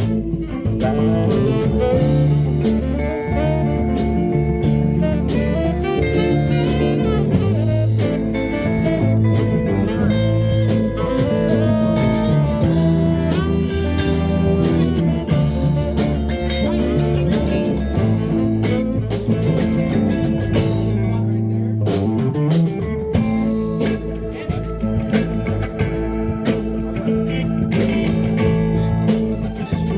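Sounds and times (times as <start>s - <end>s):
guitar with bent notes: 0.0s - 29.9s
live blues band playing: 0.0s - 29.9s.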